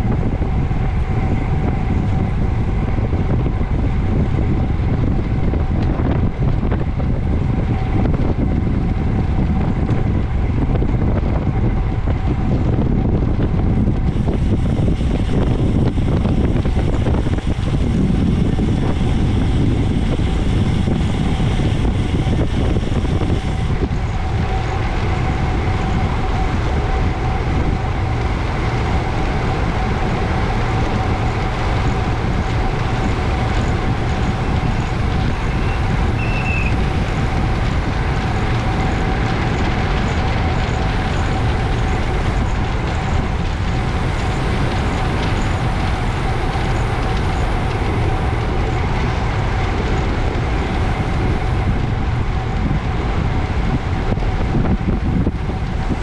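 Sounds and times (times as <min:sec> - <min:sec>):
bicycle tyre and road noise: 0:00.0 - 0:56.0
wind on microphone: 0:00.0 - 0:56.0.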